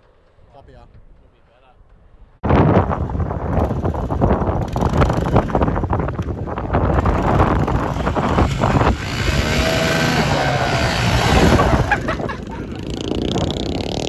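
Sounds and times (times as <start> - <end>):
motor engine revving: 2.4 - 14.0.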